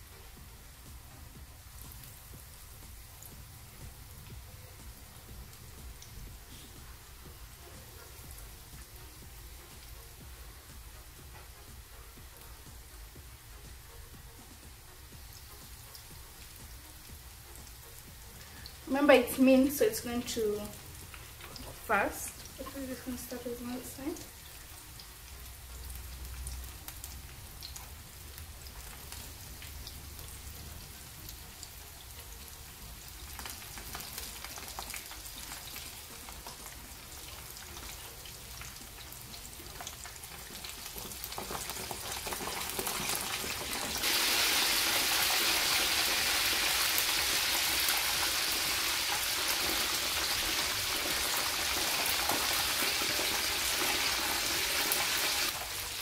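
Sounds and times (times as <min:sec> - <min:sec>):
food deep-frying in hot oil: 0:00.0 - 0:56.0.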